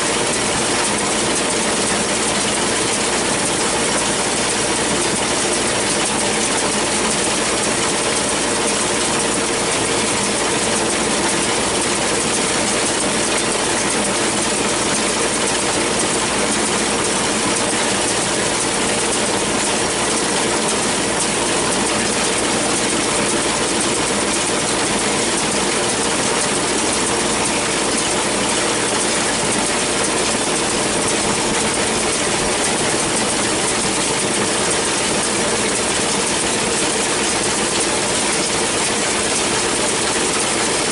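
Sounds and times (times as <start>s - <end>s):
baler mechanism running: 0.0s - 40.9s
tractor engine running: 0.0s - 40.9s.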